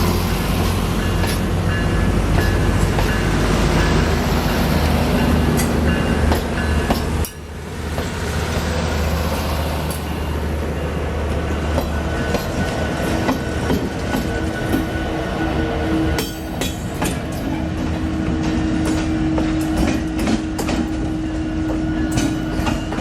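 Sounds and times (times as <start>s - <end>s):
train low drone: 0.0s - 23.0s
train wheels rolling with clicks: 0.2s - 10.6s, 11.2s - 23.0s.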